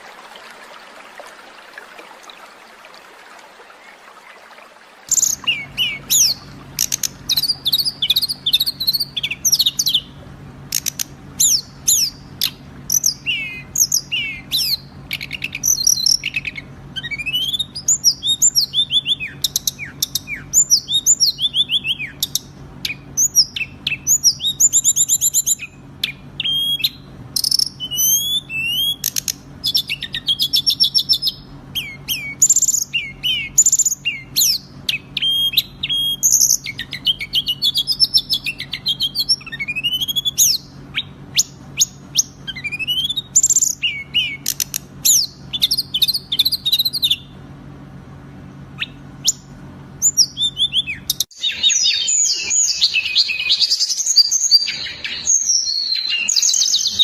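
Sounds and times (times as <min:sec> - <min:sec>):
songbird chirps and trills: 0:00.0 - 0:47.4, 0:48.6 - 0:57.0
faint low hum: 0:00.0 - 0:57.0.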